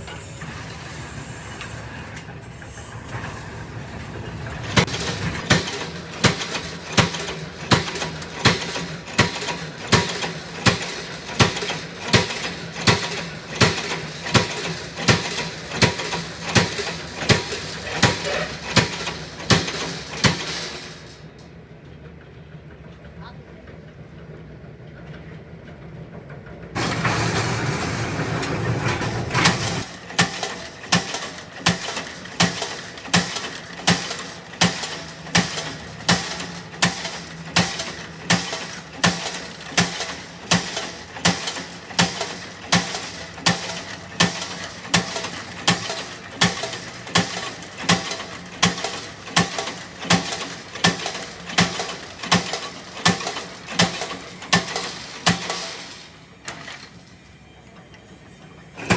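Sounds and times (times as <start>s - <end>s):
loud machine noise: 0.0s - 21.4s, 26.8s - 57.4s, 58.4s - 58.9s.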